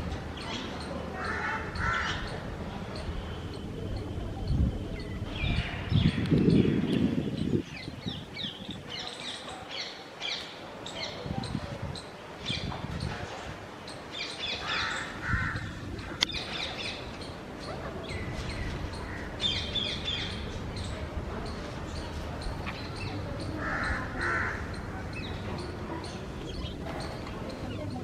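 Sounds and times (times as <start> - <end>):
parakeets calling: 0.2 - 13.1, 13.8 - 28.0.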